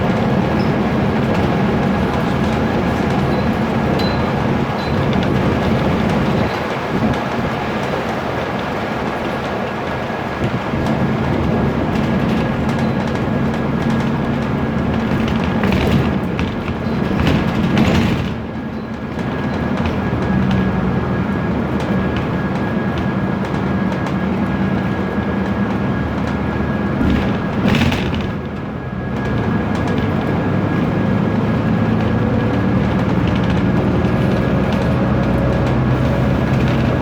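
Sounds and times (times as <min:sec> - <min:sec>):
bus diesel engine droning: 0:00.0 - 0:37.0.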